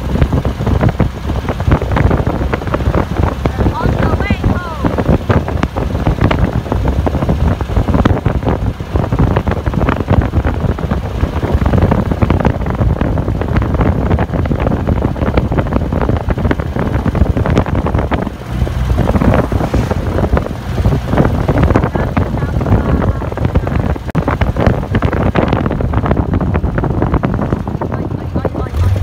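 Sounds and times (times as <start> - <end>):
road noise: 0.0 - 29.0
trike engine: 0.0 - 29.0
wind buffeting microphone: 0.0 - 29.0.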